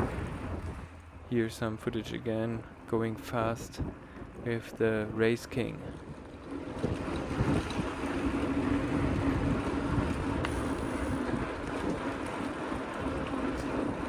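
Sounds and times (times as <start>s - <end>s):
low hum of tyres rolling: 0.0s - 14.0s
wind buffeting microphone: 0.0s - 14.0s.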